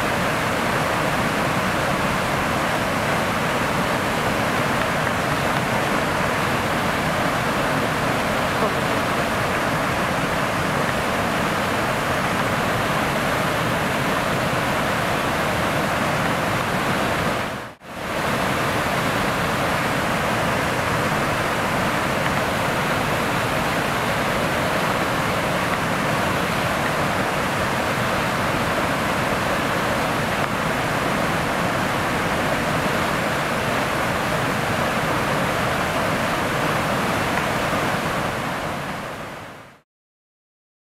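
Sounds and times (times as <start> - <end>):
waterfall rushing: 0.0 - 39.8.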